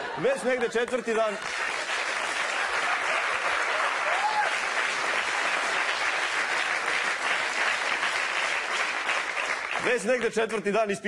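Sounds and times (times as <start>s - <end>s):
audience applauding: 1.1s - 10.2s.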